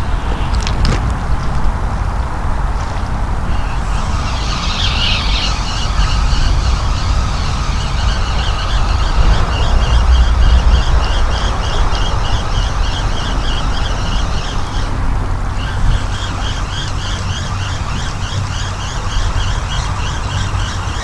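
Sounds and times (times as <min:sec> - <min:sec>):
wind buffeting microphone: 0:00.0 - 0:21.0
rhythmic high squeaking: 0:03.4 - 0:21.0.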